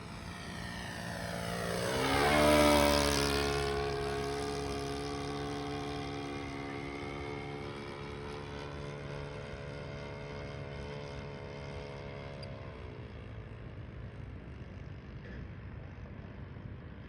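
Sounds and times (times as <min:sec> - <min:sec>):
model plane engine running: 0:00.0 - 0:17.0.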